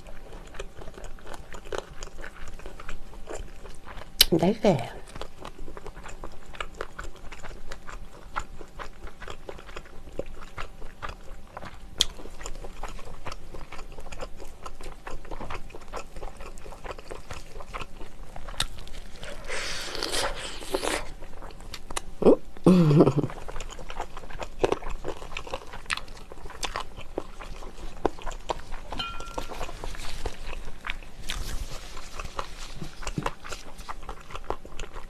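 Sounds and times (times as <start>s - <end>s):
biting and chewing chicken: 0.0s - 4.3s, 4.9s - 22.2s, 23.0s - 35.0s.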